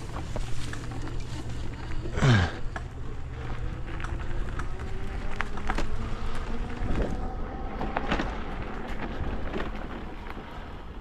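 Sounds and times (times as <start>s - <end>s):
small vehicle engine running: 0.0s - 11.0s.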